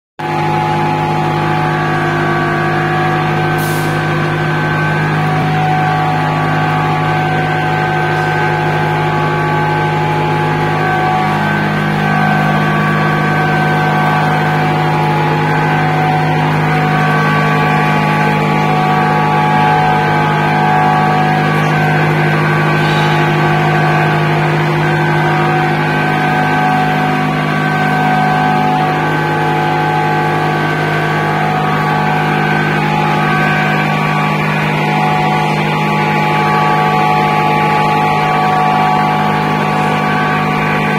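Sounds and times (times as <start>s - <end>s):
loud machine hum: 0.2s - 40.9s.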